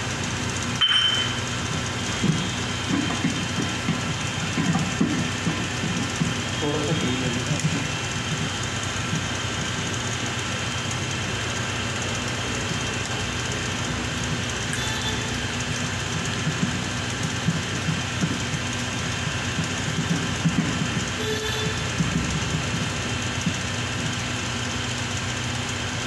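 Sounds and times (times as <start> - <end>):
steady machine noise: 0.0 - 26.0.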